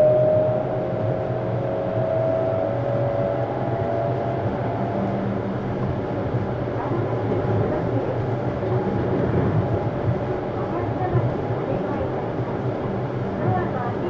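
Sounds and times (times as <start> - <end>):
electric train motor whine: 0.0 - 13.5
wheels rumbling on rail: 0.0 - 14.0.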